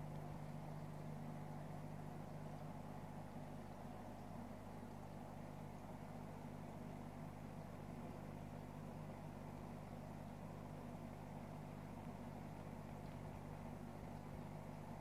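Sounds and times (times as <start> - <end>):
aquarium equipment hum: 0.0 - 15.0.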